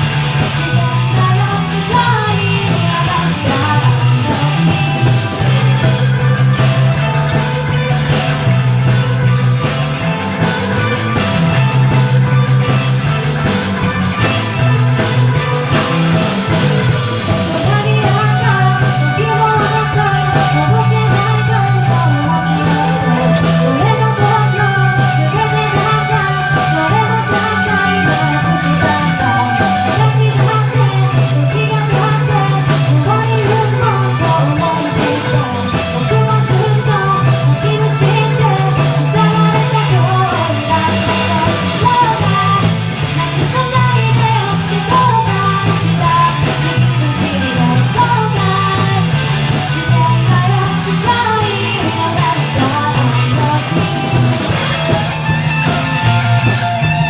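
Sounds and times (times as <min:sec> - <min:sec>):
person singing: 0:00.0 - 0:55.2
bass guitar: 0:00.0 - 0:57.0
drum kit beat: 0:00.0 - 0:57.0
electric guitars: 0:00.0 - 0:57.0.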